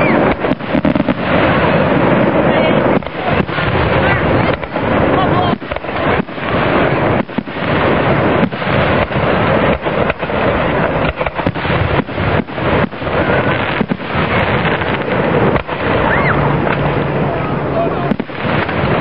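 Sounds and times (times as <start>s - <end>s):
fireworks bangs and crackle: 0.0s - 19.0s.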